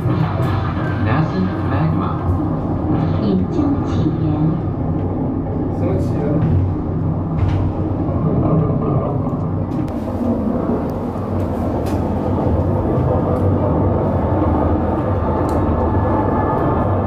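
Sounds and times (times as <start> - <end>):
tunnel car rumbling on guideway: 0.0 - 17.0.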